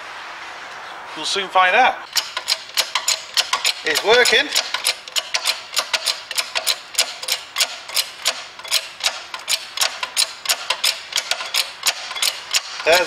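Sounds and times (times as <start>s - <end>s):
hydraulic press pump handle clicking: 2.1s - 13.0s.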